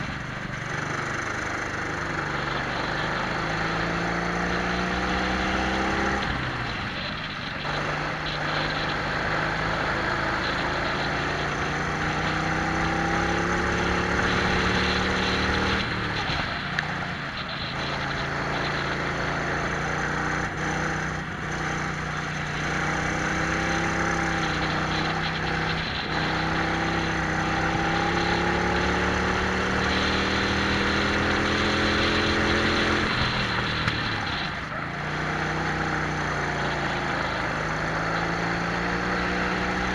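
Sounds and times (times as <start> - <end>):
two-stroke kart engines at speed: 0.0 - 39.9.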